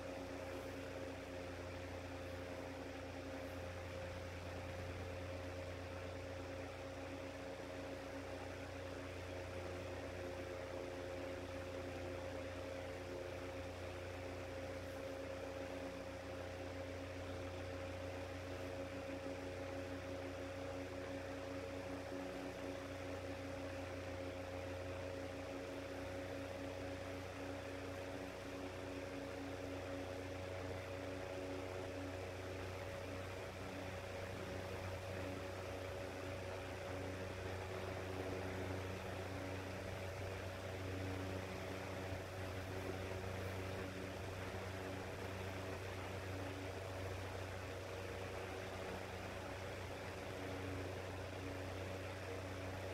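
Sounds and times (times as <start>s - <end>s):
electric fan motor humming: 0.0s - 52.9s.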